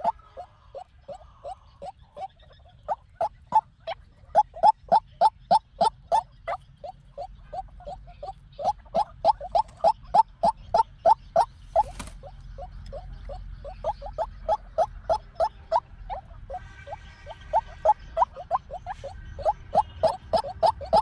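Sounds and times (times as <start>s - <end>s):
waterhen hoarse calls: 0.0s - 21.0s.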